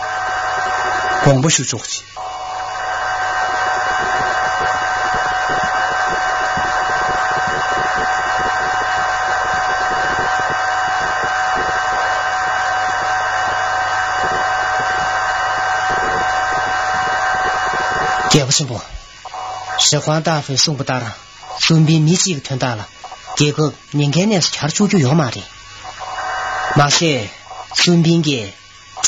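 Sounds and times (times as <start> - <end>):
electronic whine: 0.0 - 23.7, 25.0 - 28.1
static hiss: 0.0 - 29.0.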